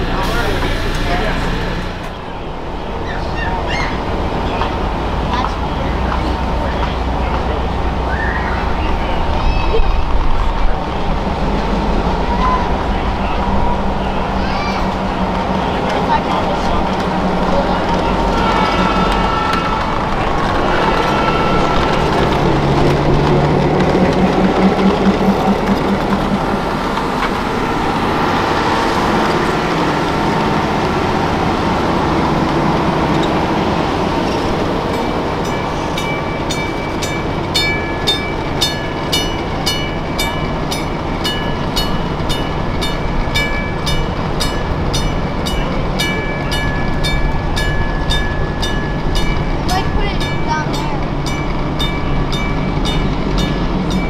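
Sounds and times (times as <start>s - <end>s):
passenger train rolling past: 0.0s - 54.0s.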